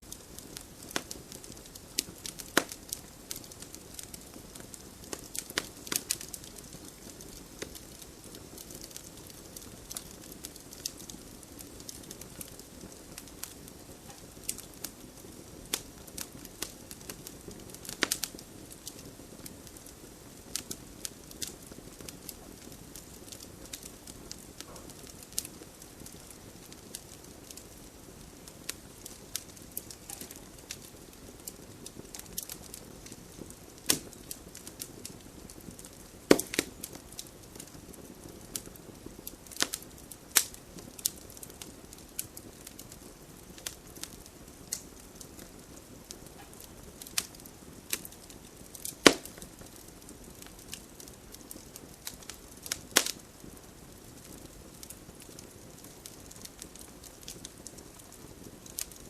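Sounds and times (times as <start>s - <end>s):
campfire crackling and popping: 0.0s - 59.0s
low hiss of flames: 0.0s - 59.0s.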